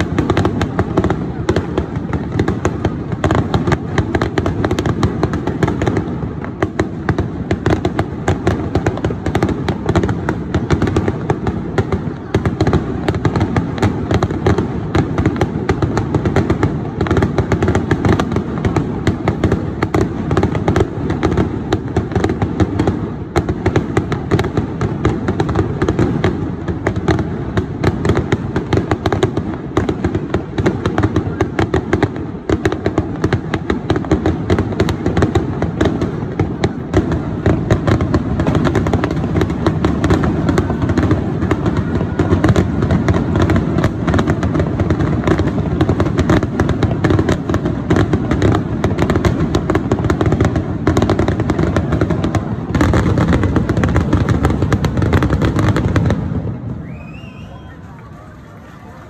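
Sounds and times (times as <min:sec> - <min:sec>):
firework shells crackling: 0:00.0 - 0:59.0.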